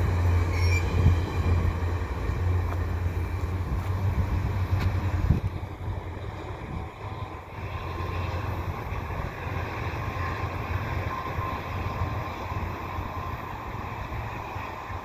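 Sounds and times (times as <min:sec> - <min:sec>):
train wheels rumbling on track: 0:00.0 - 0:15.0
wind buffeting microphone: 0:00.0 - 0:15.0.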